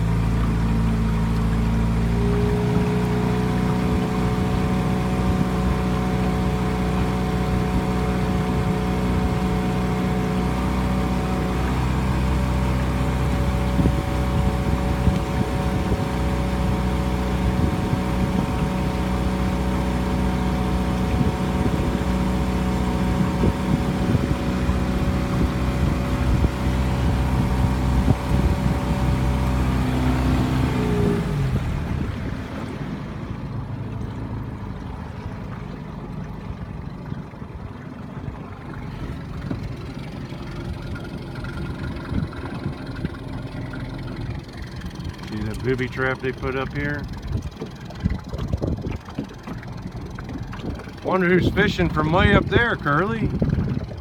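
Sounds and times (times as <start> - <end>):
outboard motor running: 0.0 - 54.0
water and wind noise: 0.0 - 54.0.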